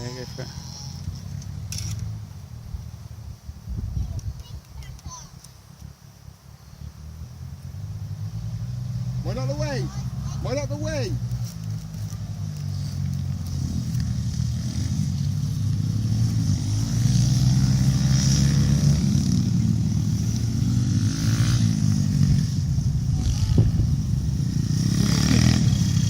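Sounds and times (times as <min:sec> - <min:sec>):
pit bike engines running: 0:00.0 - 0:26.0.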